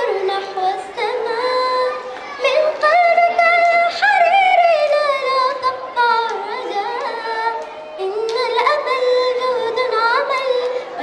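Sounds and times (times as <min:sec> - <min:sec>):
girl singing into a microphone: 0:00.0 - 0:11.0.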